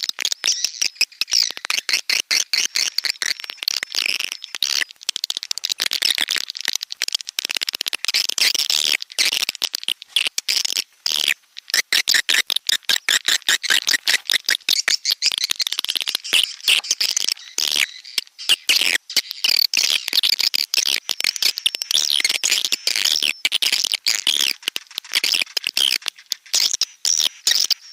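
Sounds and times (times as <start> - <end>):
recorded swiftlet calls: 0.0 - 27.9.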